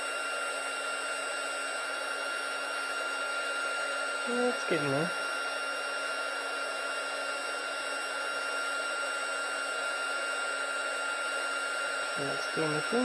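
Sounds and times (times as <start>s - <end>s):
heat gun blowing hiss: 0.7s - 13.0s.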